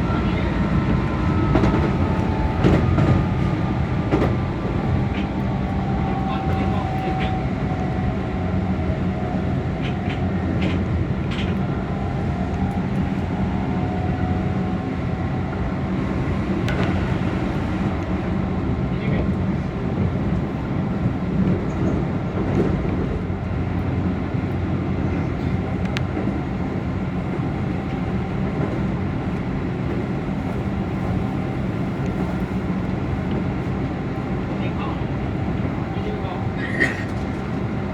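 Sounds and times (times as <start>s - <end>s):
electric train rumbling on rails: 0.0s - 37.9s.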